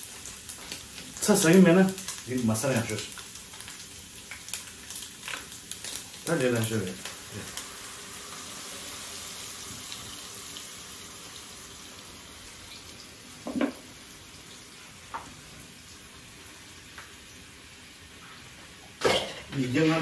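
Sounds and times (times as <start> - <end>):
bacon sizzling in frying pan: 0.0 - 20.0.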